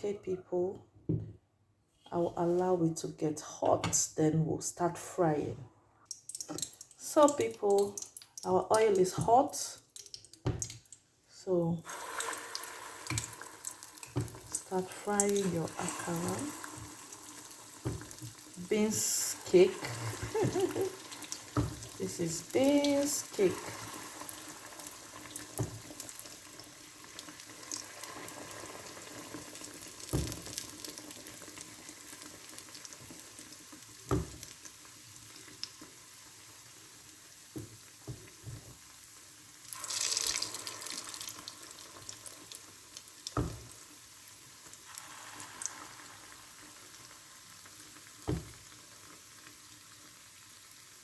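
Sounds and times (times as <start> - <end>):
food frying in hot oil: 6.1 - 9.2, 11.8 - 51.0.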